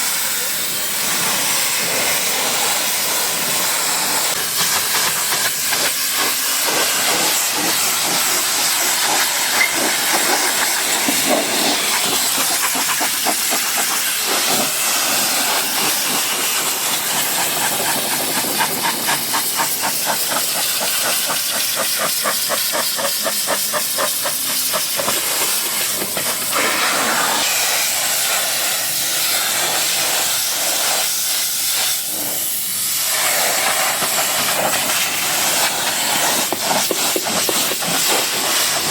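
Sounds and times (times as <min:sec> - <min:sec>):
pressure washer spray hissing: 0:00.0 - 0:38.9.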